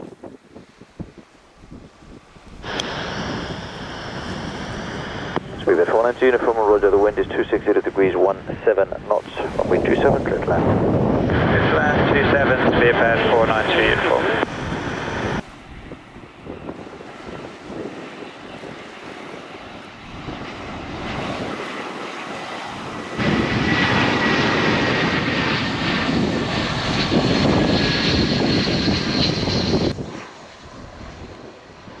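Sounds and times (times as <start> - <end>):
jet airliner landing: 0.0 - 32.0.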